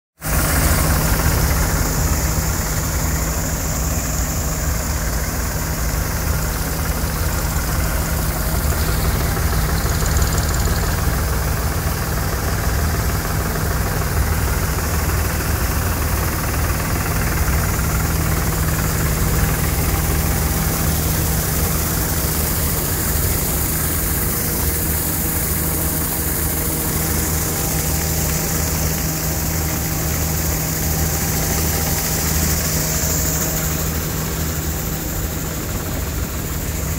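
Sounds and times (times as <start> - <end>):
combine harvester engine hum: 0.2 - 36.9
rushing hiss of machinery: 0.2 - 36.9.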